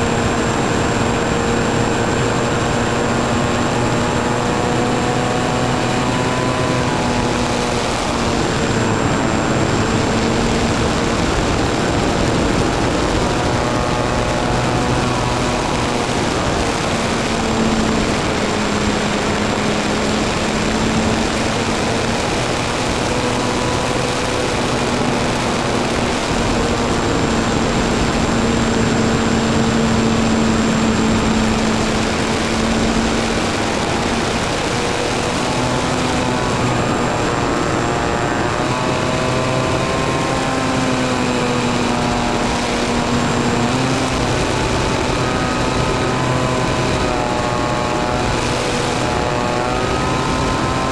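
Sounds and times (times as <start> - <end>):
model plane motor and propeller: 0.0 - 50.9
wind noise: 0.0 - 50.9.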